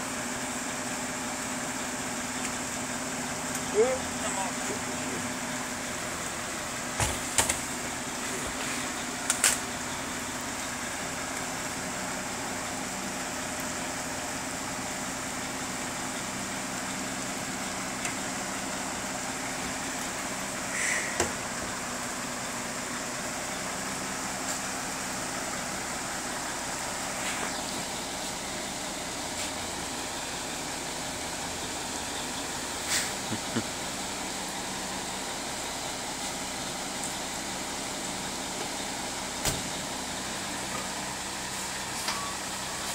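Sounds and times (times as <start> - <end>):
heavy rain hiss: 2.8 - 42.9.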